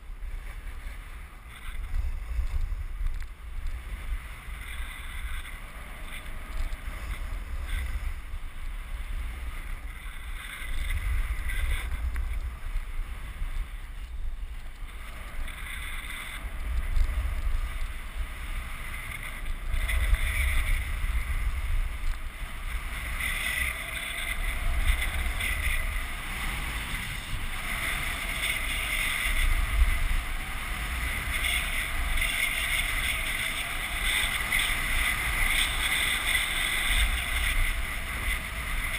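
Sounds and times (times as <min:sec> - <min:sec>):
snowboard scraping over snow: 0:00.0 - 0:38.9
wind buffeting microphone: 0:00.0 - 0:38.9.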